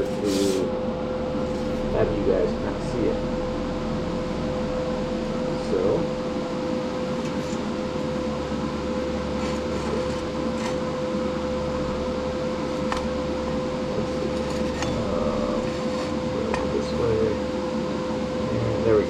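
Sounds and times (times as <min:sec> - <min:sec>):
fan hum: 0:00.0 - 0:19.0.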